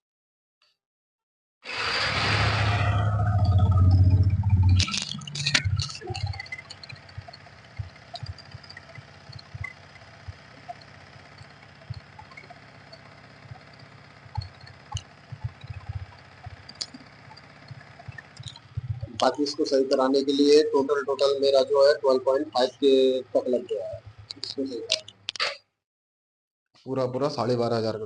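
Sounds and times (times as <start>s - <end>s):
motorcycle engine revving and idling: 2.2s - 24.8s.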